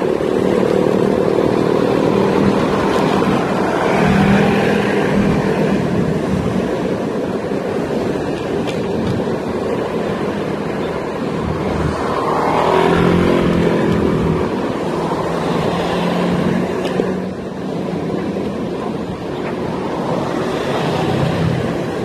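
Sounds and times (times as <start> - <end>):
scooter tyres on asphalt: 0.0 - 22.0
wind noise: 0.0 - 22.0.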